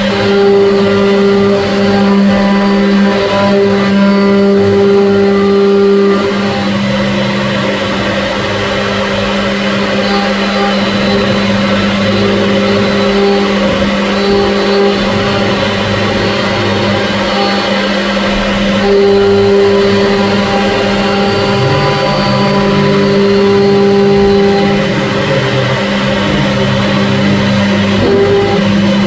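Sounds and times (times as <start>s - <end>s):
cnc machine motor hum: 0.0s - 29.0s
machine tones changing pitch: 0.0s - 29.0s.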